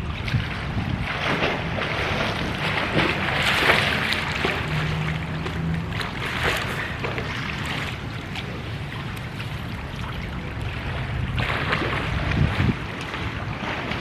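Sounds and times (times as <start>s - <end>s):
wind buffeting microphone: 0.0s - 7.1s, 9.4s - 14.0s.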